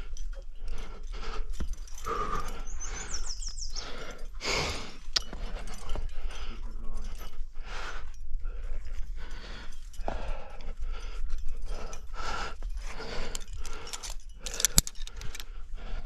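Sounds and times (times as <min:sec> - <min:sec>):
person breathing hard: 0:00.0 - 0:16.0.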